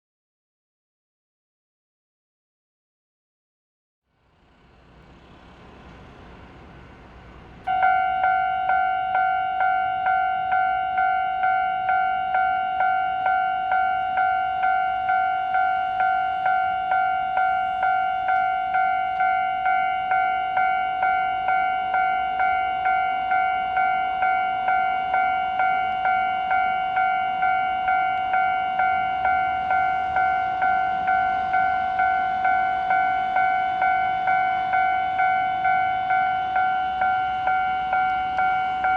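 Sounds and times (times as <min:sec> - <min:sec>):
level crossing warning bell: 0:05.5 - 0:38.9.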